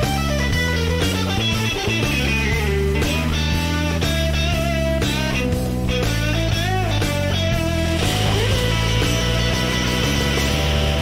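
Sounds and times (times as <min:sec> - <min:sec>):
guitar-led background music: 0:00.0 - 0:11.0.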